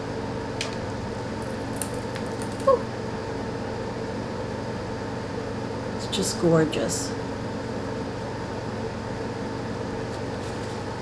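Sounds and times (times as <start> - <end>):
steady room hum: 0.0 - 11.0.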